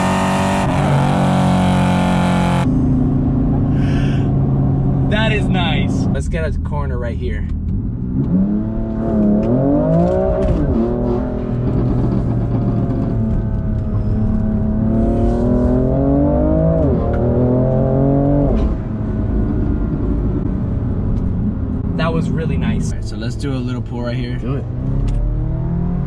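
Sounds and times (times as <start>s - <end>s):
car engine accelerating hard: 0.0s - 6.3s, 7.5s - 26.0s.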